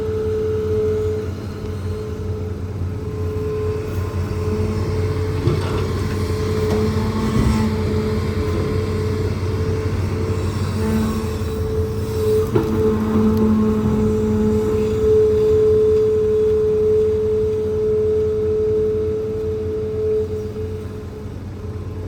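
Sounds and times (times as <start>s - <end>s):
constant whine: 0.0s - 22.0s
excavator diesel engine running: 0.0s - 22.0s.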